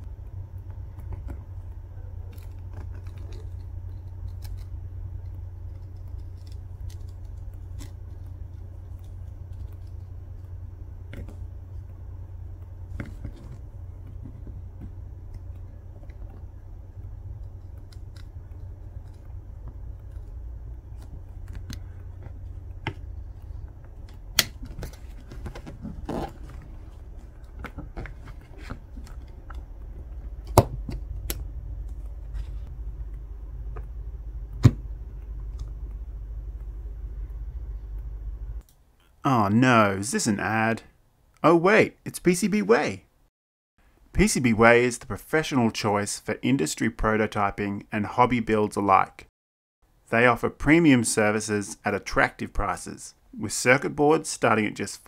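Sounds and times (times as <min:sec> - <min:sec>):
steady low hum: 0:00.0 - 0:46.5.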